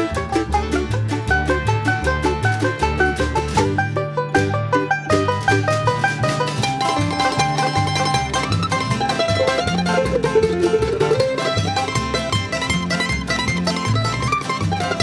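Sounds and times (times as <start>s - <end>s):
upbeat bluegrass music: 0.0s - 15.0s.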